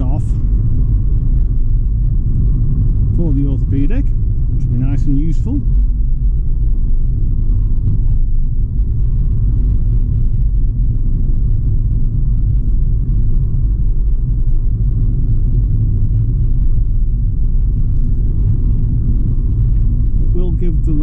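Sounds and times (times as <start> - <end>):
vehicle engine drone from inside: 0.0 - 21.0.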